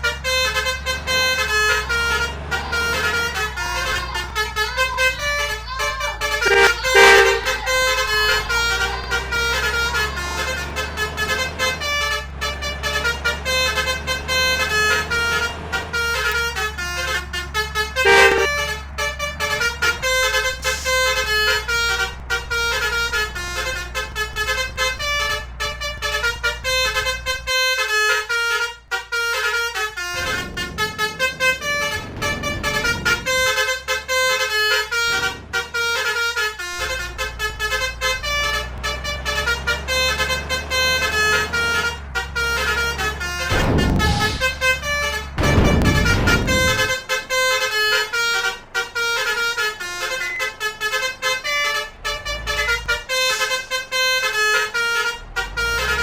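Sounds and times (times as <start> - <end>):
bus multi-tone horns: 0.0 - 56.0
low engine hum: 0.0 - 56.0.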